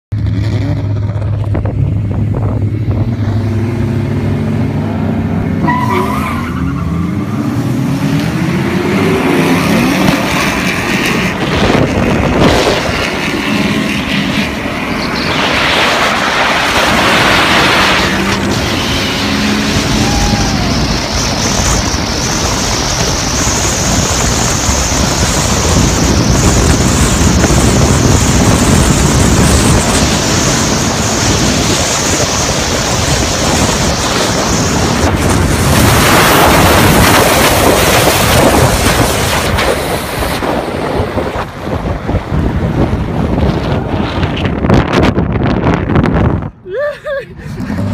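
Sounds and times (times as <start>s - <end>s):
racing car engines revving: 0.1s - 46.5s, 47.4s - 47.9s
wind and road noise: 0.1s - 47.9s.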